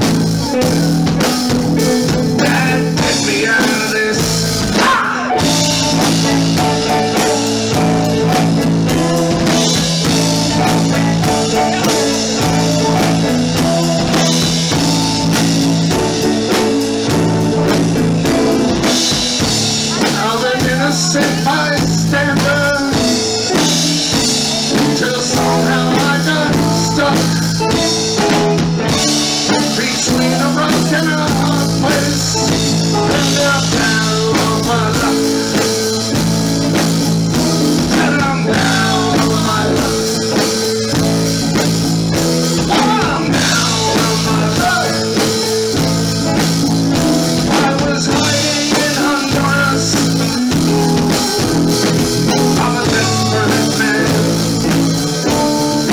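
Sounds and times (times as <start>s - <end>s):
drum kit: 0.0s - 55.9s
electric bass: 0.0s - 55.9s
electric guitars: 0.0s - 55.9s
keyboard: 0.0s - 55.9s.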